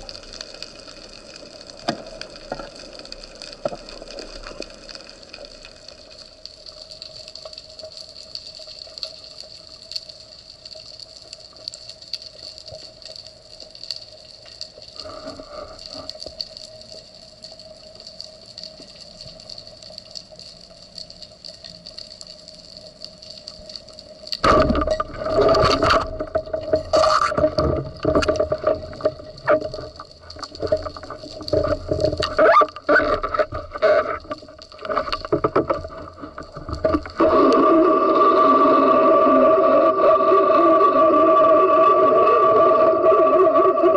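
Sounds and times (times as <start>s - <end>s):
water sloshing and gurgling: 0.0s - 40.7s.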